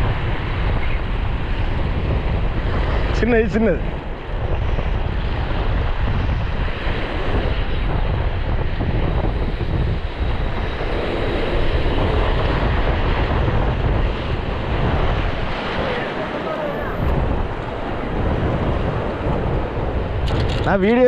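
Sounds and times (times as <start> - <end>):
sea surf washing: 0.0 - 21.0
wind buffeting microphone: 0.0 - 21.0.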